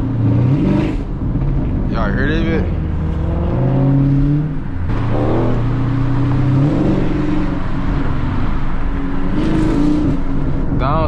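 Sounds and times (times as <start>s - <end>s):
car engine and exhaust drone: 0.0s - 11.0s.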